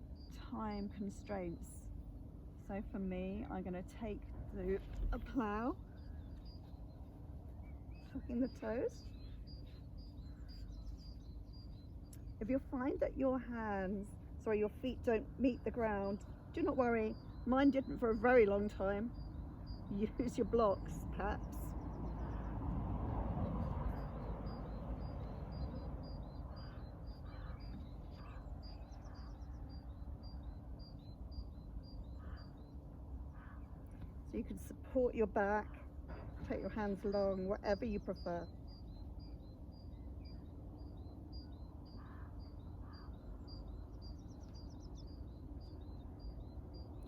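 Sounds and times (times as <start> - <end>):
low background hum: 0.0 - 47.0
steady low rumble: 0.0 - 47.0
softer bird calls: 4.1 - 22.8, 23.4 - 47.0.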